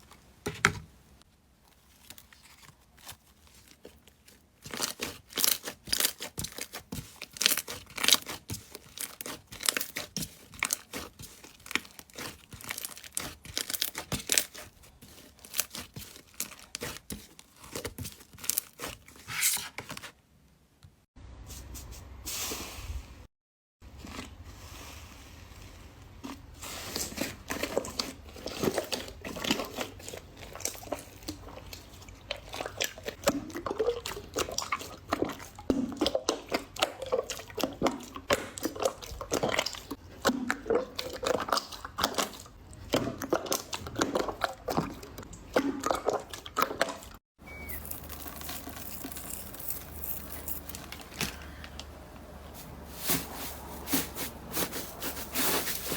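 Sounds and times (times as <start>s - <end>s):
slime squelching: 1.5s - 20.2s, 23.9s - 55.9s.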